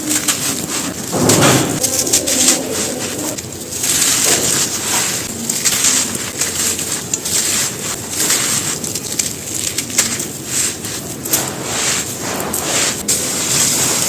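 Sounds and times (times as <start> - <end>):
brittle material crunching by hand: 0.0 - 14.0.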